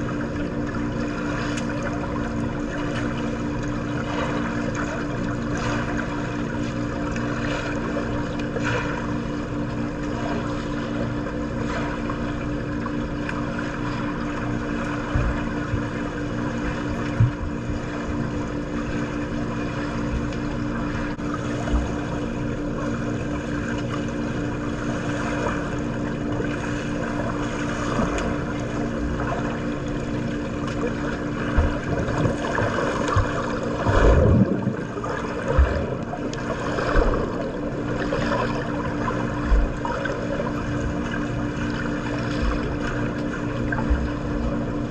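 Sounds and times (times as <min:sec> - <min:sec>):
steady mechanical hum: 0:00.0 - 0:44.9
water sloshing and splashing: 0:00.0 - 0:44.9.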